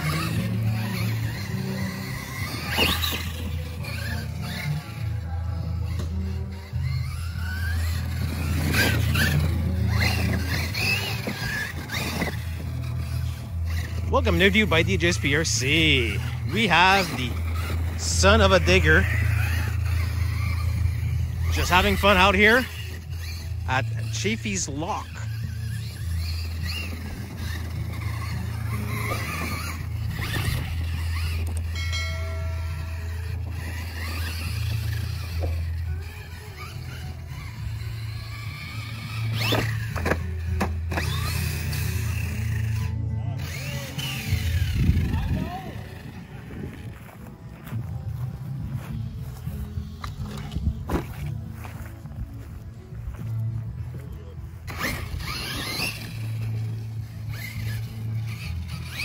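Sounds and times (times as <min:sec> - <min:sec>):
electric motor whining: 0:00.0 - 0:59.0
tyres skidding on dirt: 0:00.0 - 0:59.0.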